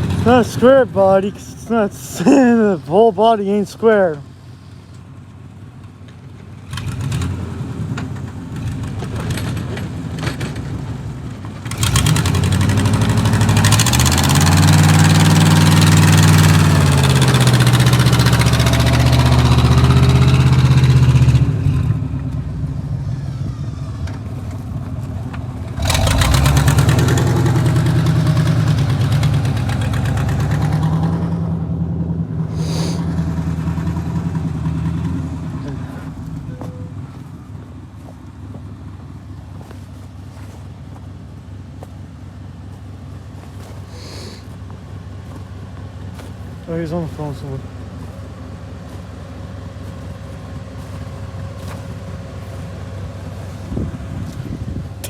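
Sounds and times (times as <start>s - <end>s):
vehicle engine revving: 0.0s - 5.0s, 6.6s - 41.1s, 42.7s - 55.0s.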